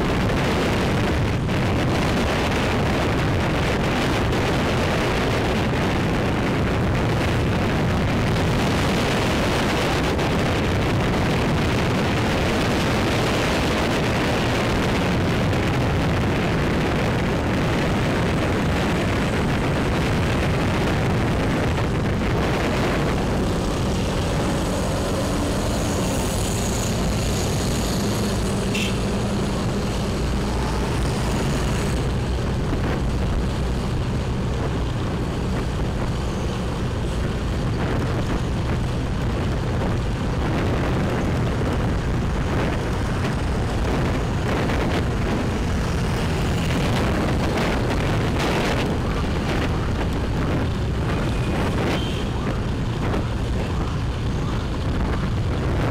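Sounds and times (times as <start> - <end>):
wind rushing over microphone: 0.0 - 55.9
motorbike engine humming: 9.3 - 55.9.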